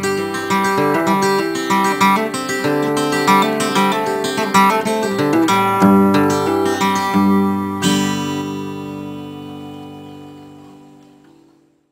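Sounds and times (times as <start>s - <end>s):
acoustic guitar: 0.0s - 11.9s.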